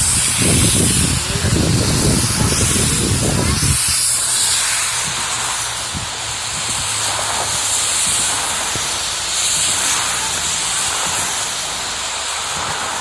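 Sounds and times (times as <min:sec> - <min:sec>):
car engine humming: 0:00.0 - 0:13.0
rain pelting a car: 0:00.0 - 0:13.0.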